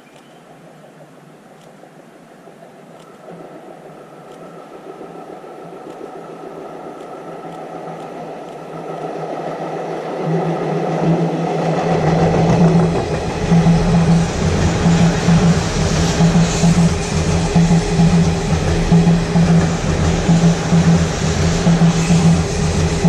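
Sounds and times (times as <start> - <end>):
electric train passing: 2.5 - 23.0
deep train rumble: 3.2 - 23.0.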